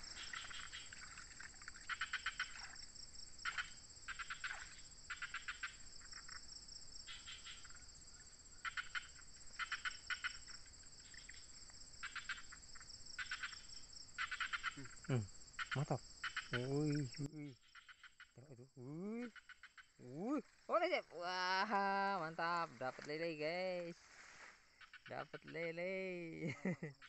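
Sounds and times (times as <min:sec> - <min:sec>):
high-pitched insect drone: 0:00.0 - 0:27.0
insects chirping trills: 0:00.0 - 0:27.0.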